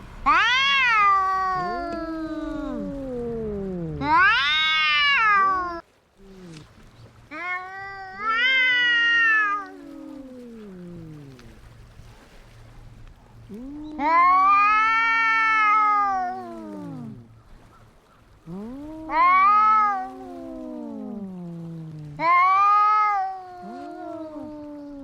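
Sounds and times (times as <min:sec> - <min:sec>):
cats yowling in a fight: 0:00.2 - 0:05.8, 0:07.3 - 0:11.7, 0:13.5 - 0:17.3, 0:18.5 - 0:25.0.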